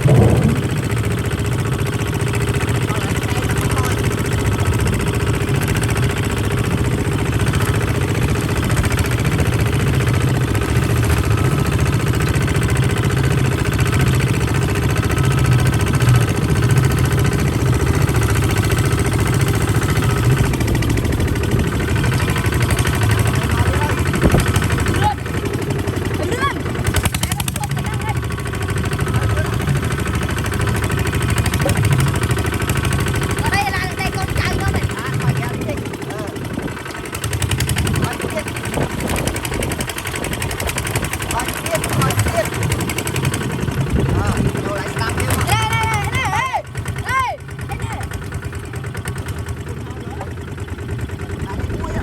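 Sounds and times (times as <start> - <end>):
diesel engine chugging: 0.0 - 52.0.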